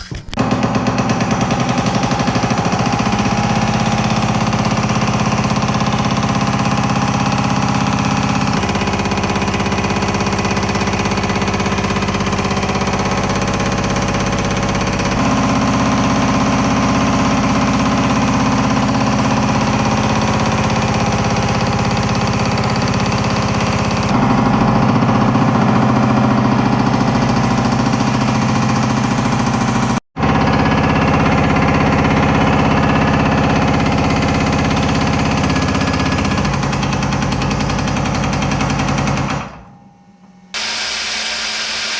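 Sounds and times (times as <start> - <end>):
power hammer hammering sheet steel: 0.0 - 41.9.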